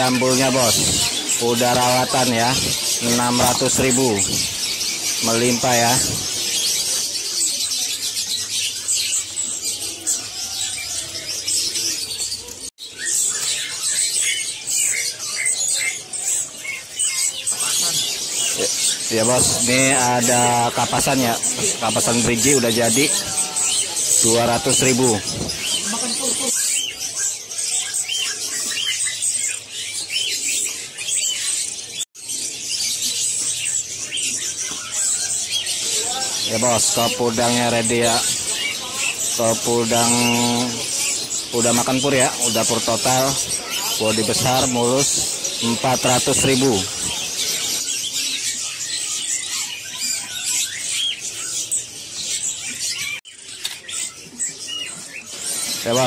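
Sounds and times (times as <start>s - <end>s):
songbirds chirping: 0.0s - 56.0s
wings fluttering in cages: 0.0s - 56.0s.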